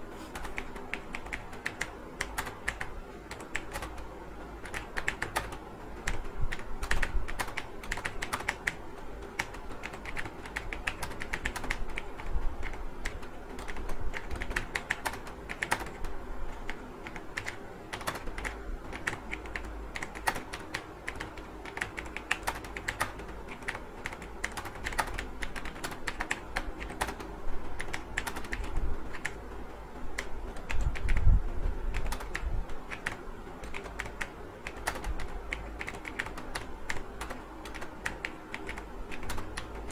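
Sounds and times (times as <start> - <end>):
keyboard typing: 0.2 - 31.3, 31.9 - 39.9.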